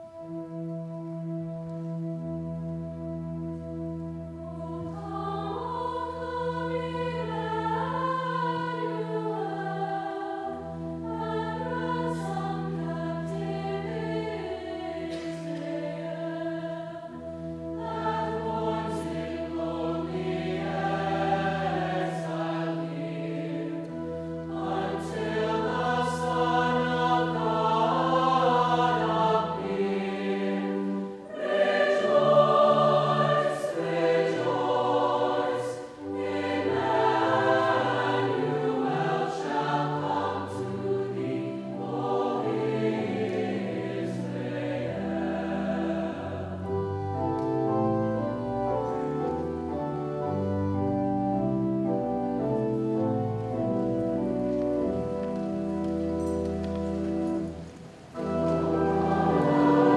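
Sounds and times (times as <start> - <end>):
mixed choir singing: 4.3 - 50.8, 55.6 - 59.9.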